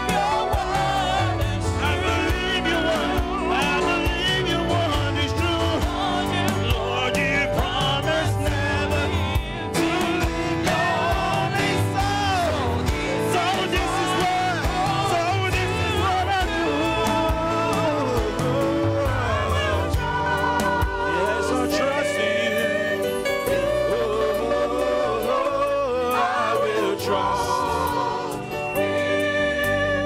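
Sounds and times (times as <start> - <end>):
women's choir singing: 0.0 - 4.7, 5.8 - 30.0
male singer: 0.0 - 27.9
band with bass and drums: 0.0 - 30.0.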